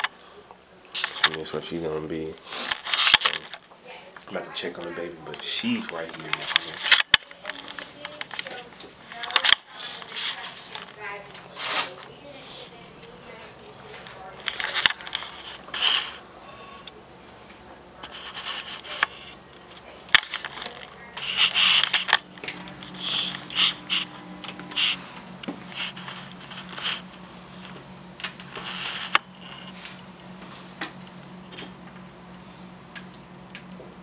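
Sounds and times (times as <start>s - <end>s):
steady low hum: 0.0s - 34.0s
blood pressure cuff rustling: 2.4s - 33.7s.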